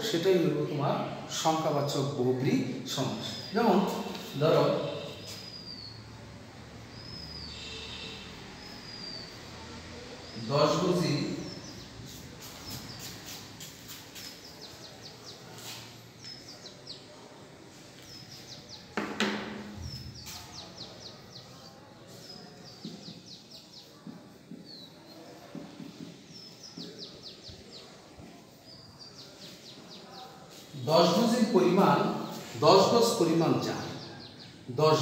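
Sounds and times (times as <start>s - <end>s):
small bird singing: 2.9s - 6.1s, 6.9s - 17.2s, 18.0s - 19.0s, 19.6s - 35.0s.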